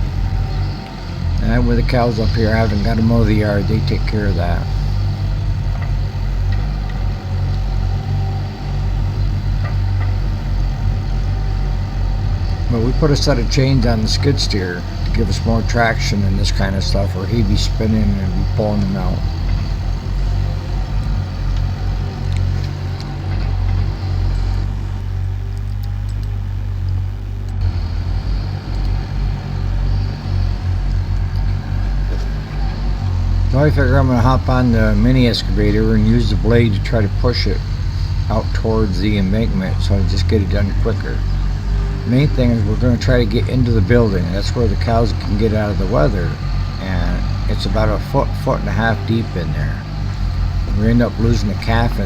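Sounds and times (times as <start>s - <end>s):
heavy equipment engine humming: 0.0s - 52.0s.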